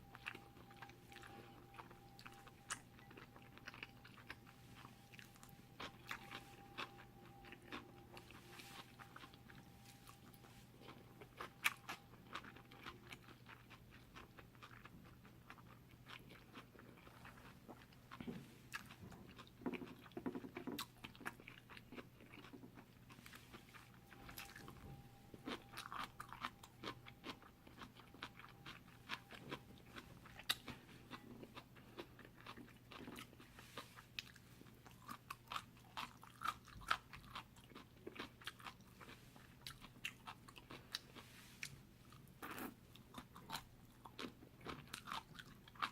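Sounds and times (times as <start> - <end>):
wet mouth chewing noodles: 0.0 - 45.9.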